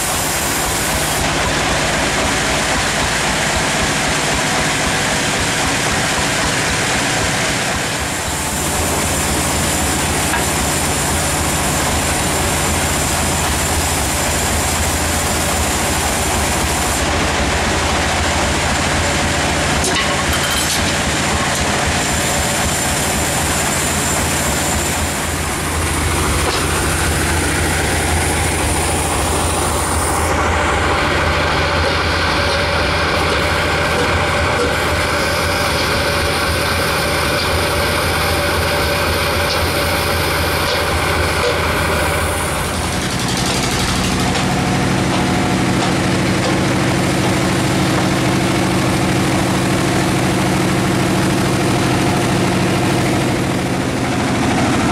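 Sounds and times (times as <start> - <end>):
band sawmill running: 0.0 - 54.9.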